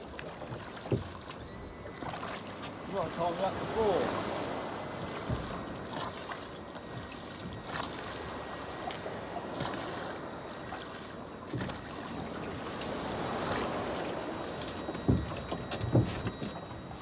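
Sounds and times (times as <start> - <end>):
sea wash: 0.0 - 17.0
wind: 0.0 - 17.0.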